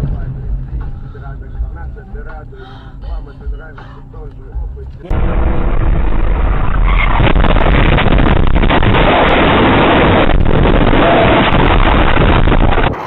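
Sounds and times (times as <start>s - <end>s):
overloaded rumbling and crackling: 0.0s - 13.0s.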